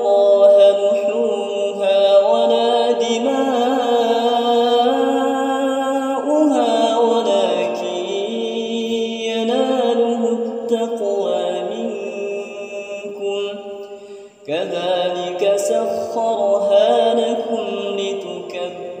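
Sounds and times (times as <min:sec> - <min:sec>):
man chanting recitation: 0:00.0 - 0:19.0.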